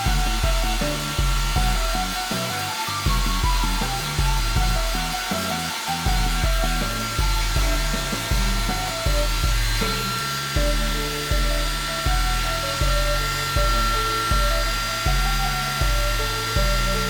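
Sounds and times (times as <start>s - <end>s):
background music with steady beat: 0.0s - 17.0s
hair dryer whine and air rush: 0.0s - 17.0s.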